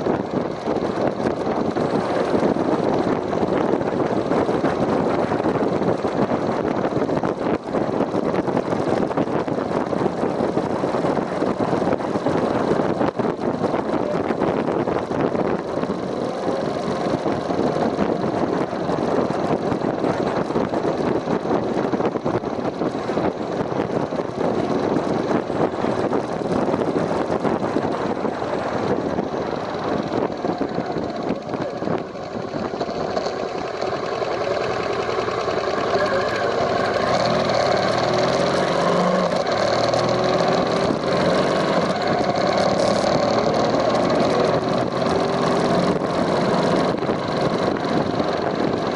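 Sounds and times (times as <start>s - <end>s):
abnormal engine noise: 0.0s - 48.9s
motorcycle engine running: 0.0s - 48.9s.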